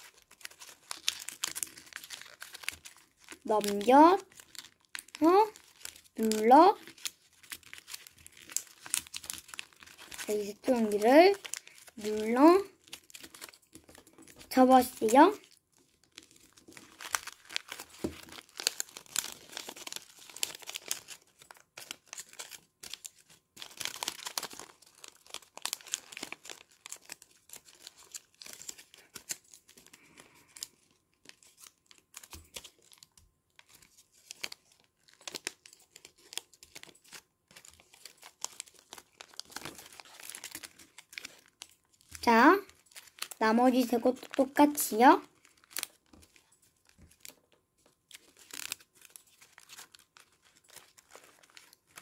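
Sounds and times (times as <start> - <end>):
paper crinkling and rustling: 0.0 - 52.0.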